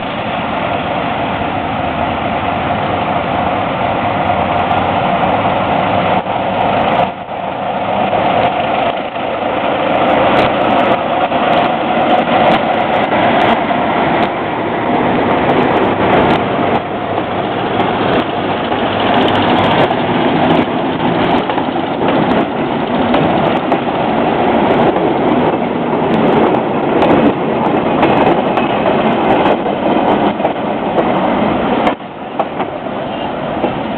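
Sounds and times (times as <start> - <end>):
train engine running: 0.0 - 33.9
train wheels clicking over rail joints: 4.1 - 33.9.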